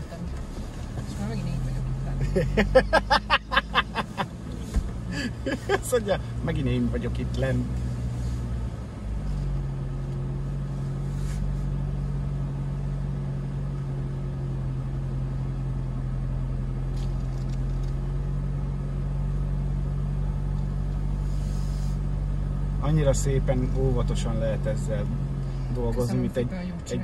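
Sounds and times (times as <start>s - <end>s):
vehicle engine running at low revs: 0.0s - 27.0s.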